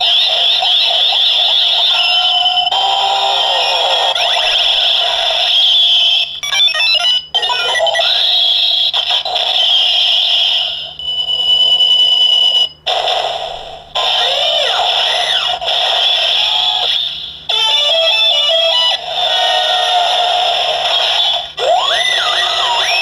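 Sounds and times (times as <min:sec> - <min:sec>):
toy belt electronic sound effects: 0:00.0 - 0:10.9, 0:14.0 - 0:23.0.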